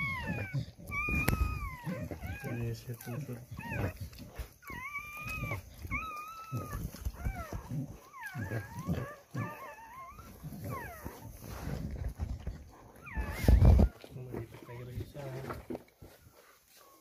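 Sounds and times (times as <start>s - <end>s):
puppies whining: 0.0s - 15.4s, 16.0s - 17.0s.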